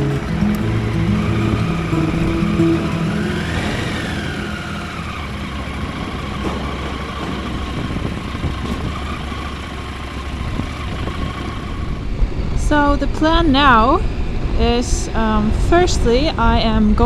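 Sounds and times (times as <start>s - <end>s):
high whine: 0.0s - 16.9s
motorcycle engine rumble: 0.0s - 17.0s.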